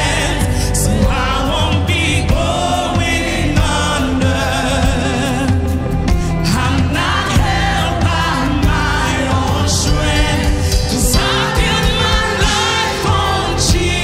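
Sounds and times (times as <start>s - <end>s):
backing voices singing: 0.0s - 14.0s
gospel band playing: 0.0s - 14.0s
woman singing lead: 0.0s - 14.0s.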